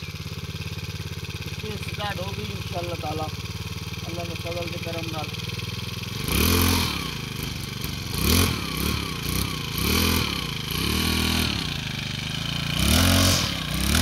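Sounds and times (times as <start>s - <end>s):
brush cutter engine revving: 0.0s - 14.0s.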